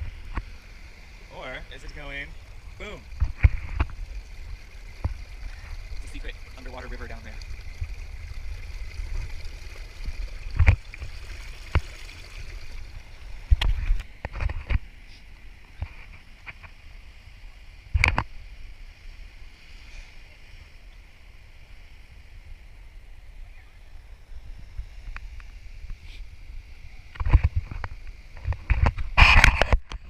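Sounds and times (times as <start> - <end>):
river water running: 0.0 - 30.0.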